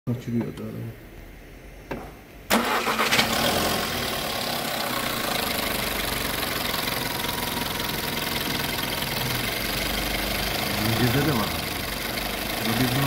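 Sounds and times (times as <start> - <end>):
car engine idling: 2.5 - 13.0.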